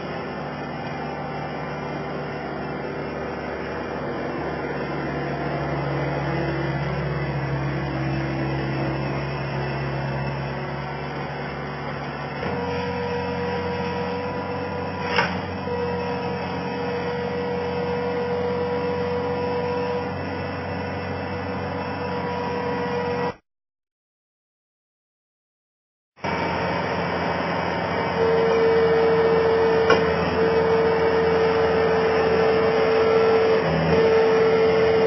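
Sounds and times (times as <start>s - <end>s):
loader engine running: 0.0s - 23.4s, 26.2s - 35.0s.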